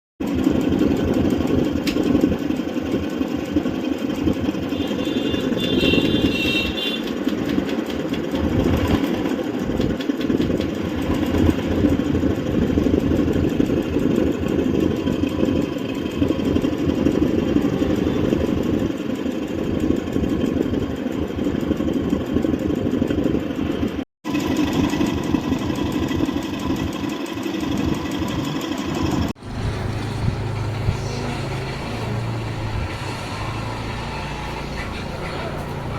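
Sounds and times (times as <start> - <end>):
motorcycle engine idling with abnormal noise: 0.2 - 35.9.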